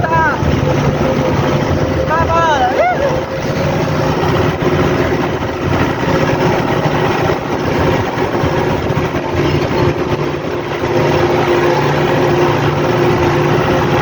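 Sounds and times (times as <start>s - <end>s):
wind rushing: 0.0s - 12.8s
tractor engine running: 0.0s - 14.0s.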